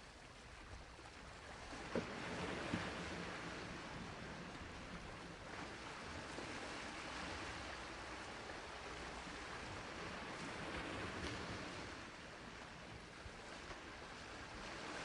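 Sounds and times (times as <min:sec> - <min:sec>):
sea waves washing onto shore: 0:01.2 - 0:15.0.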